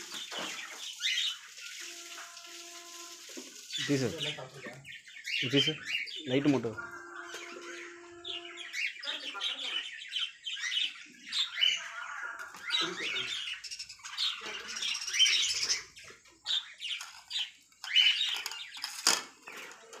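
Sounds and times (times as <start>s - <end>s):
lovebirds chattering and squawking: 0.0s - 20.0s.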